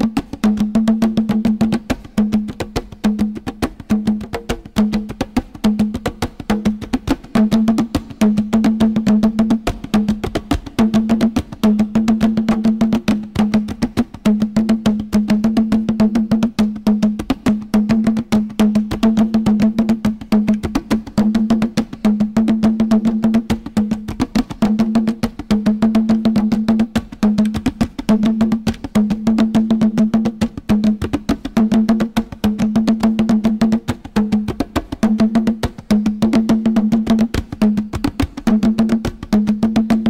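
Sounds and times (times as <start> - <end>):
rapid dense percussion: 0.0 - 40.0.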